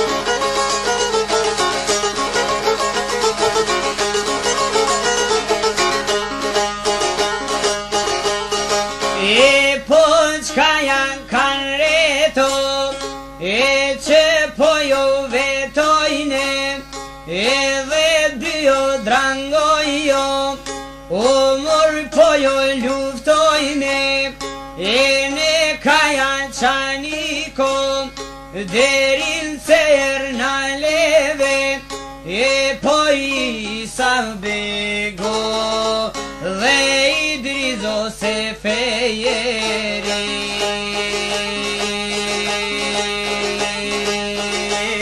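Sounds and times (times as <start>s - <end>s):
plucked string instrument phrase: 0.0s - 45.0s.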